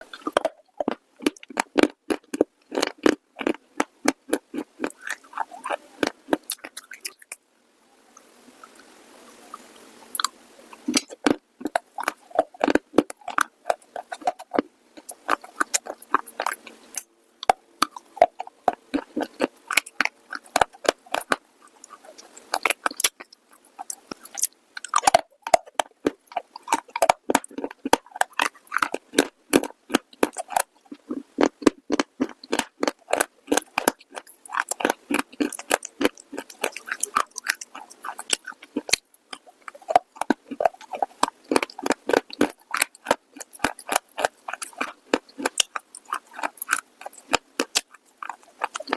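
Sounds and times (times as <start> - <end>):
crunching and chewing: 0.0 - 7.4, 10.2 - 48.9.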